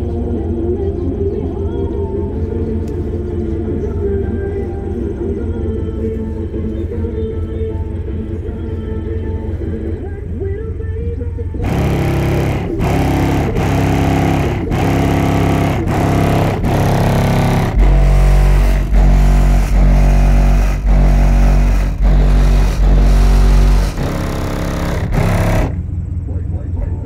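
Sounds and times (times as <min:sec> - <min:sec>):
loud bass-heavy music: 0:00.0 - 0:26.0.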